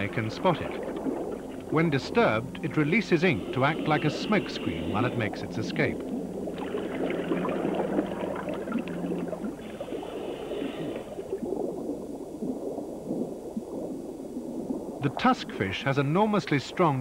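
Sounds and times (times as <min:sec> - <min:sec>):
low steady hum: 0:00.0 - 0:17.0
underwater bubbling water: 0:00.0 - 0:17.0.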